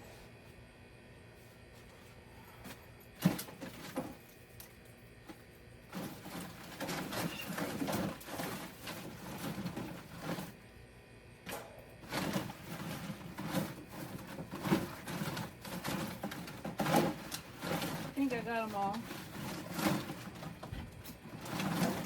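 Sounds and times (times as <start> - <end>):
rustling and knocking of loofahs: 1.7 - 10.6, 11.5 - 22.0.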